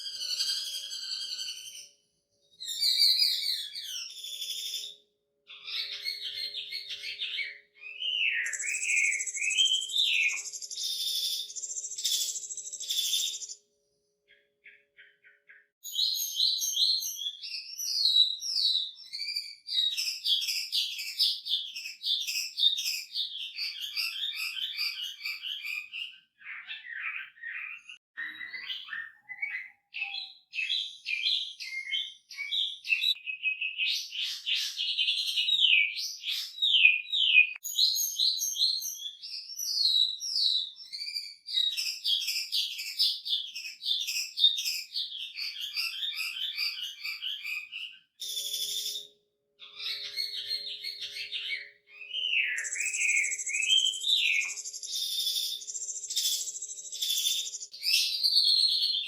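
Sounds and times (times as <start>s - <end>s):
bird singing trills: 0.0s - 59.0s.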